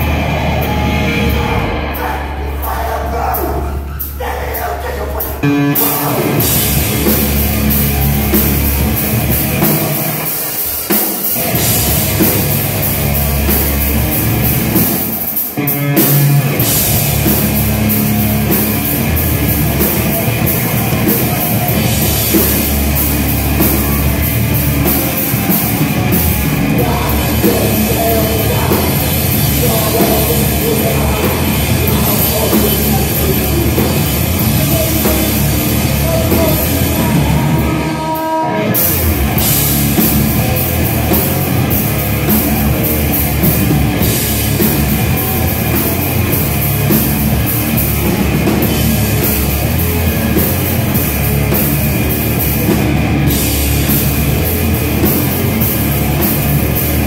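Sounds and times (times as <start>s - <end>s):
distorted electric guitar: 0.0s - 57.0s
drum kit: 0.0s - 57.0s
live punk band playing: 0.0s - 57.0s.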